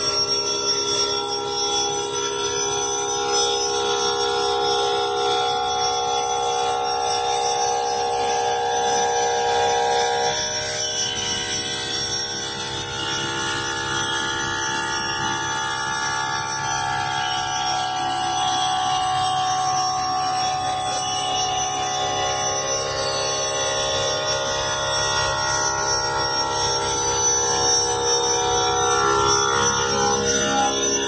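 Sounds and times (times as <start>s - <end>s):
machine spindle whining: 0.0s - 31.0s.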